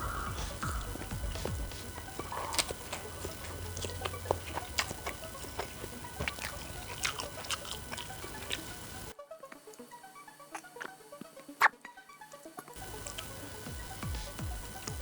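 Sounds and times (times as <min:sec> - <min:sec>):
noodle slurping: 0:00.0 - 0:09.2, 0:10.4 - 0:15.0
chewing smacks: 0:00.0 - 0:09.8, 0:10.4 - 0:15.0.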